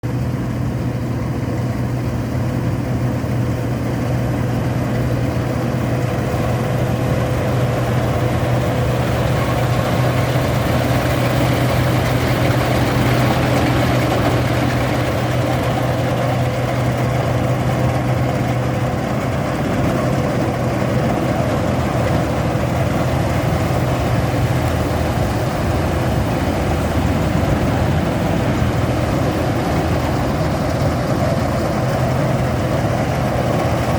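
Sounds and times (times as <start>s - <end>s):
combine harvester engine humming: 0.0s - 33.9s.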